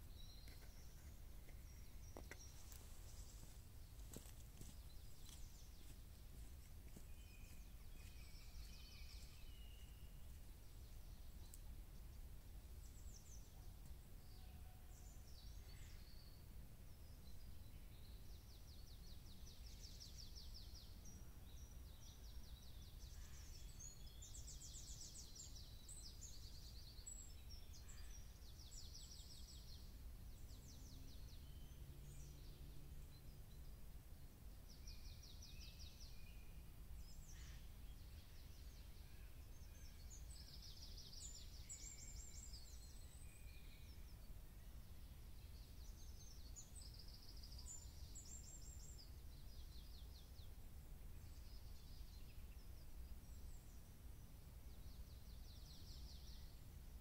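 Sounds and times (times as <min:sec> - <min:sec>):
songbirds trilling faintly: 0:00.0 - 0:57.0.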